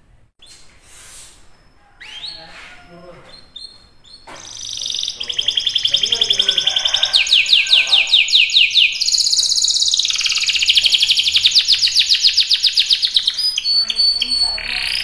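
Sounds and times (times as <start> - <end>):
canary singing trills: 1.5 - 15.0.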